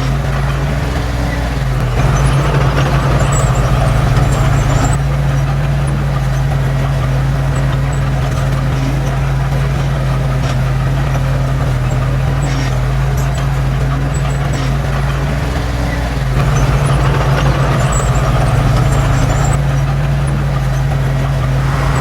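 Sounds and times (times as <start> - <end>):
heavy machinery diesel engine running: 0.0 - 22.0.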